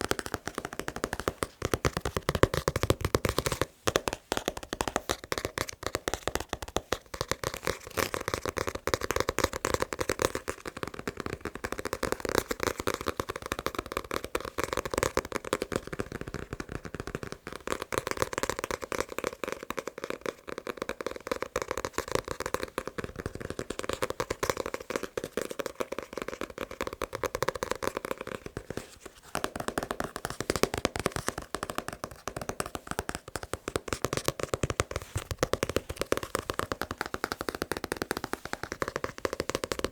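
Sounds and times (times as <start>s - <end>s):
fast tapping on a book: 0.0s - 39.9s.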